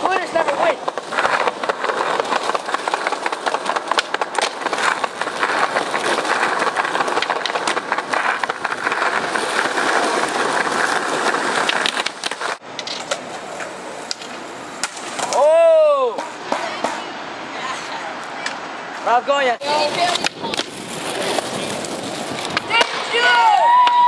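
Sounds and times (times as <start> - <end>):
skateboard clacks: 0.0 - 15.5, 16.1 - 17.1, 19.6 - 24.0
skateboard wheels rolling on concrete: 0.0 - 24.0.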